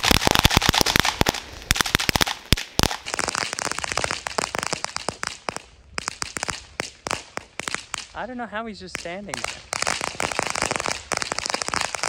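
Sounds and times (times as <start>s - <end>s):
firework crackling pops: 0.0s - 12.0s.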